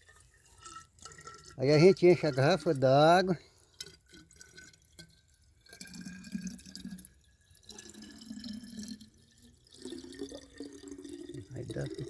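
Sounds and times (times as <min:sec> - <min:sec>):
water gurgling into a bottle: 0:00.0 - 0:12.0.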